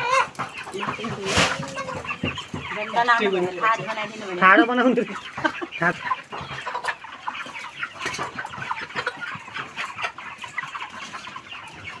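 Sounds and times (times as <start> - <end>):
chickens clucking and cheeping: 0.0 - 12.0.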